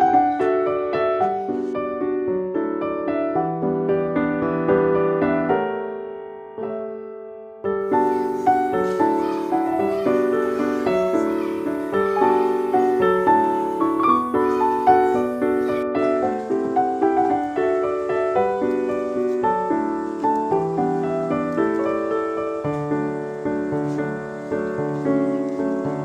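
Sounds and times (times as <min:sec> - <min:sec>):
soft piano melody: 0:00.0 - 0:26.0.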